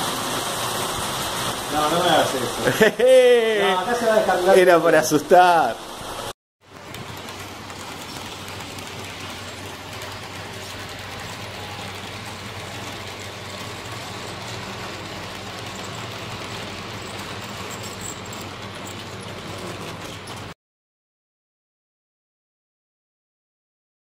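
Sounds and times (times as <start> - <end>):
model train wheels rumbling: 0.0 - 20.6.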